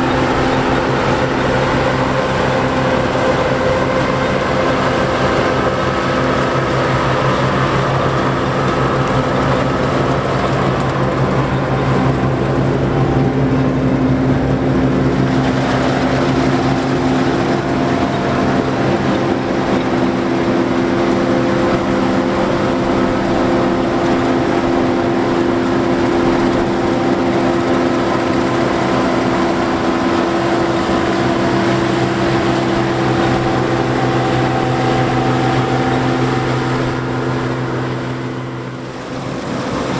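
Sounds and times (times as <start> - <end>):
combine engine drone: 0.0 - 39.9
machine clatter: 0.0 - 39.9.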